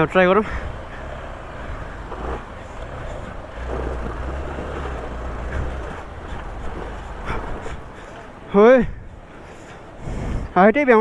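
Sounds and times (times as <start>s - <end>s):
motorcycle engine under load: 0.0s - 10.6s.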